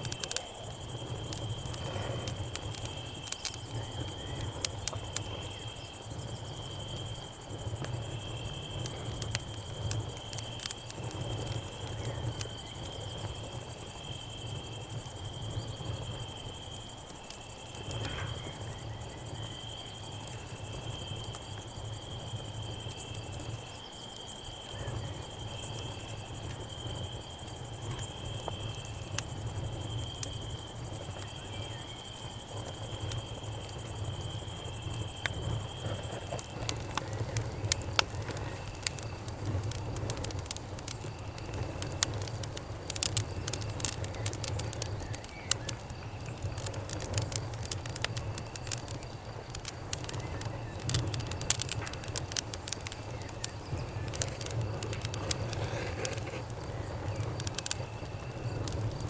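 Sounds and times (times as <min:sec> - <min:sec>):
campfire crackling and popping: 0:00.0 - 0:59.0
cicada drone: 0:00.0 - 0:59.0
crickets chirping: 0:00.0 - 0:59.0.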